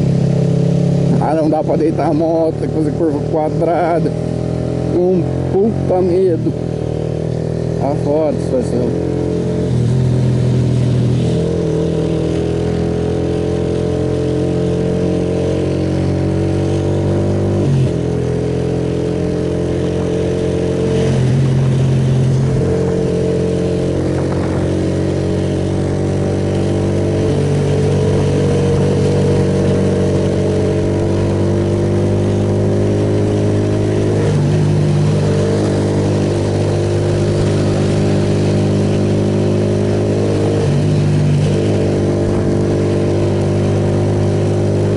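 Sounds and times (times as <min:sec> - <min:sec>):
motorcycle engine running: 0:00.0 - 0:44.9
wind and wet road noise: 0:00.0 - 0:44.9.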